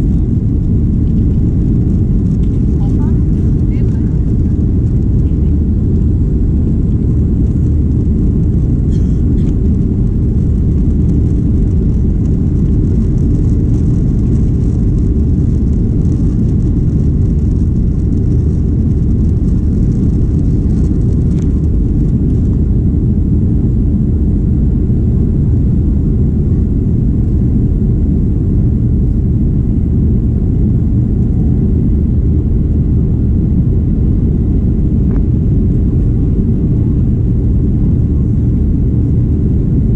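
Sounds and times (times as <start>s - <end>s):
jet engine rumble inside cabin: 0.0s - 39.9s.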